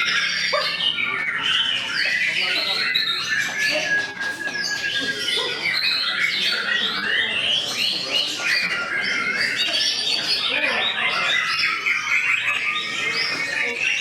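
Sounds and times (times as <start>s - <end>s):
bird singing whistled song: 0.0s - 14.0s.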